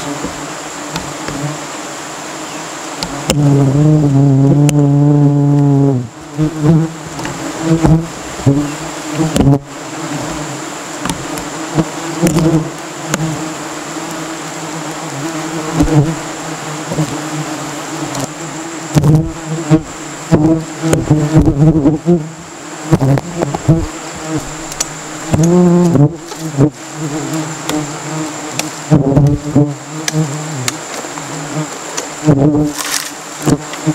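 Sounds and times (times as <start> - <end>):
bees swarming and buzzing: 0.0 - 33.9
insects buzzing past: 0.0 - 33.9.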